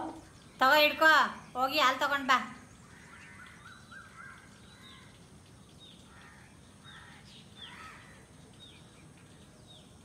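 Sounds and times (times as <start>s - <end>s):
harsh lower bird calls: 0.0s - 10.0s
high falling bird chirps: 0.0s - 10.0s.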